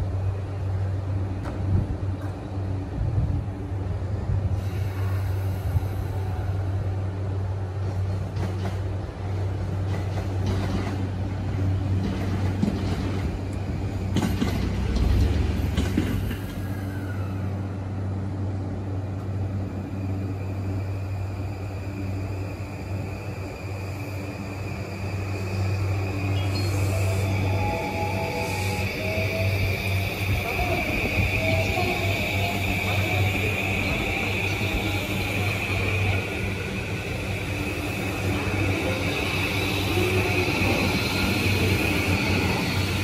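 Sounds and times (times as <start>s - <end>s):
electric train humming: 0.0s - 43.0s
train rumbling and clatter: 0.0s - 43.0s.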